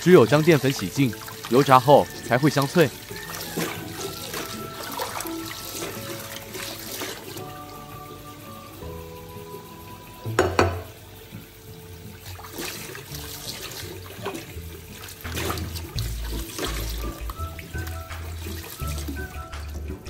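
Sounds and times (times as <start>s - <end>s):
tap water running into a bowl: 0.0s - 20.0s.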